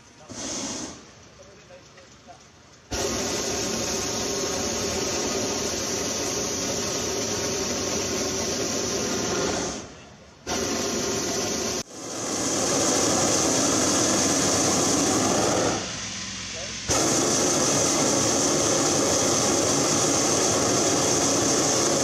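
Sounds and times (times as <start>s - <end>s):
propane burner roaring: 0.0s - 22.0s.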